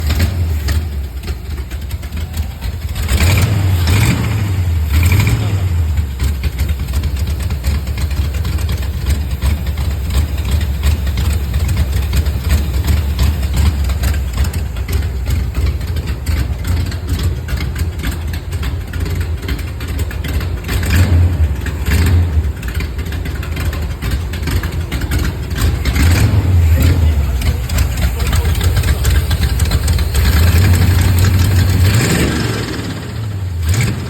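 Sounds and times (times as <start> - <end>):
car engine idling choppily: 0.0 - 34.0
fast engine ticking: 0.0 - 34.0.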